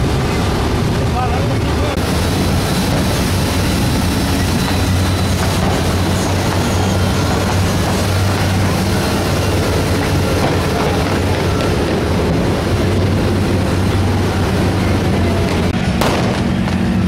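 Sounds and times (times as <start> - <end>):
motorboat engine droning: 0.0 - 17.0
wind and water rushing: 0.0 - 17.0.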